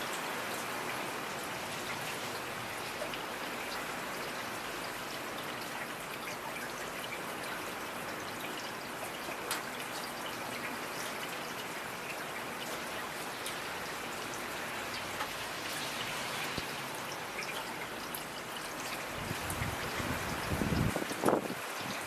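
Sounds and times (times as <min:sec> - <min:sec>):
steady rainfall: 0:00.0 - 0:22.0.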